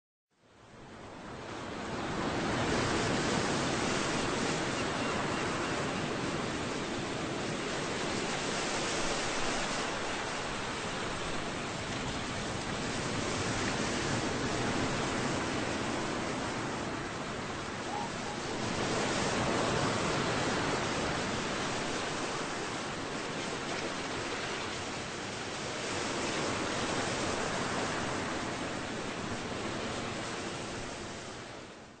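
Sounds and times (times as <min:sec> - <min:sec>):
ocean waves on rough sea: 0:00.4 - 0:32.0.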